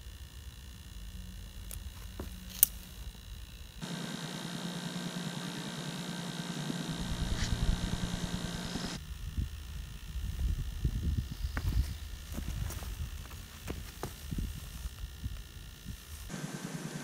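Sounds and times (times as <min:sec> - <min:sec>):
mechanical whir with high whines: 0:00.0 - 0:17.0.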